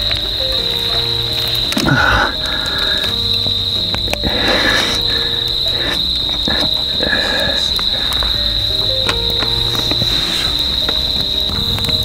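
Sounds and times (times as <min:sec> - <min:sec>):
cricket trilling: 0:00.0 - 0:12.0
soft background music: 0:00.0 - 0:12.0.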